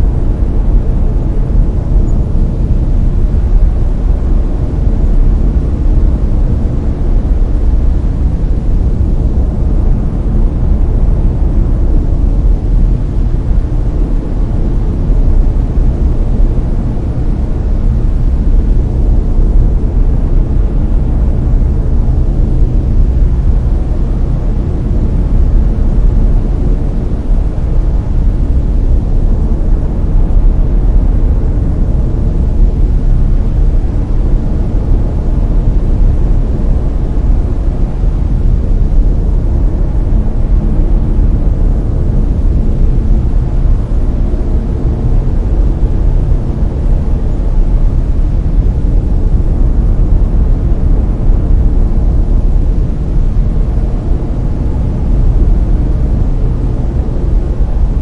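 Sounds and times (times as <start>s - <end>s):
deep rushing brown noise: 0.0s - 58.0s.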